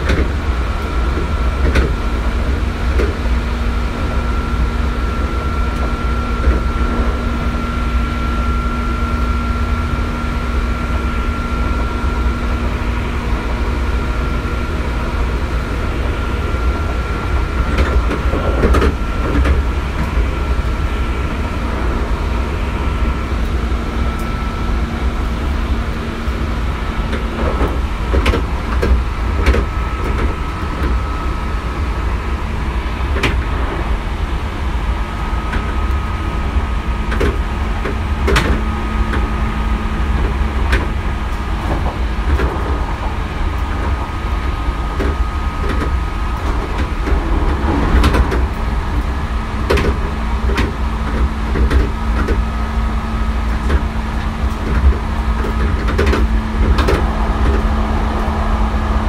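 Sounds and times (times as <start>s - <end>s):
track clicks and knocks: 0.0s - 3.3s, 11.0s - 32.1s, 32.9s - 34.0s, 35.3s - 59.0s
train hum: 0.0s - 59.0s
train wheels rumbling on rail: 0.0s - 59.0s.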